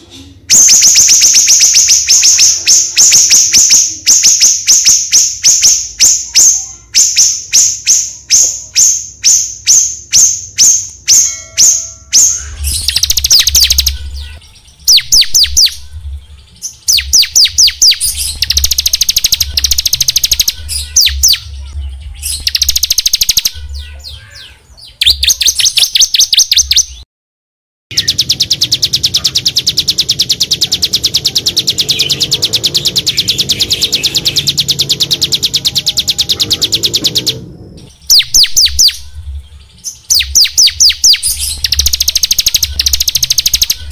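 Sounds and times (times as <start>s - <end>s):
songbirds chirping and trilling: 0.0s - 27.0s, 27.9s - 43.9s.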